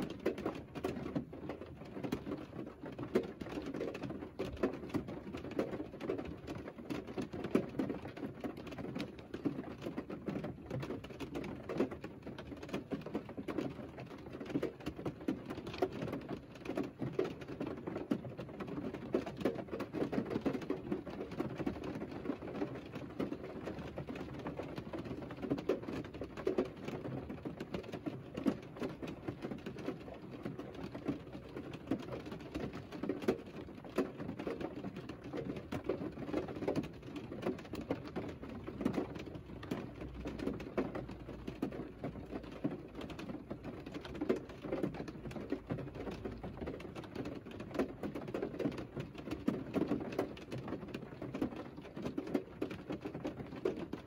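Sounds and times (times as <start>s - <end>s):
rain patter on car: 0.0s - 54.0s.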